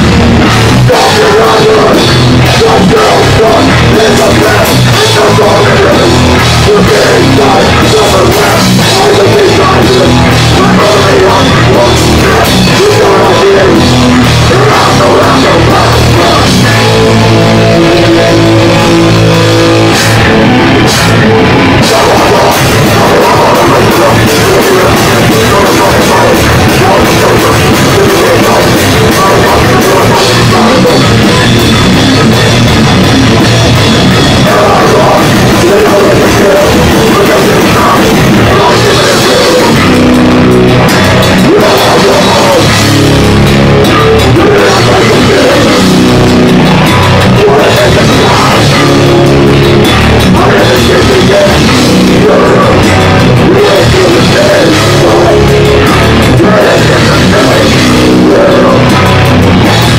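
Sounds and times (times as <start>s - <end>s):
distorted guitar and bass: 0.0s - 59.9s
pounding drum kit: 0.0s - 59.9s
shouted vocals: 0.6s - 32.6s, 34.2s - 59.9s.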